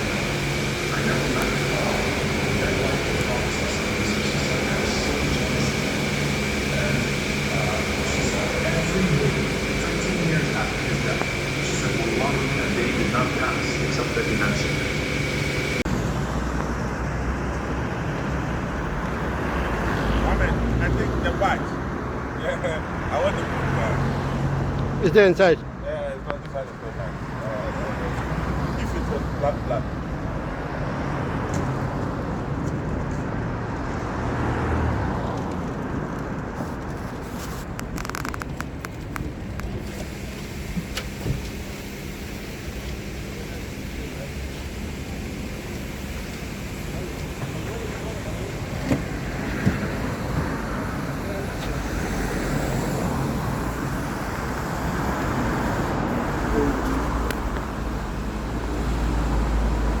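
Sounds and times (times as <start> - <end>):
road vehicle rumble and hiss: 0.0 - 60.0.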